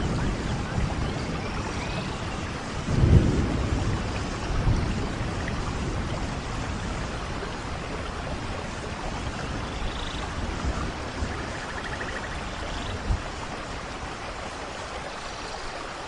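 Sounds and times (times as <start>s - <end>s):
low rumble of thunder: 0.0s - 14.6s
steady rain: 0.0s - 16.0s.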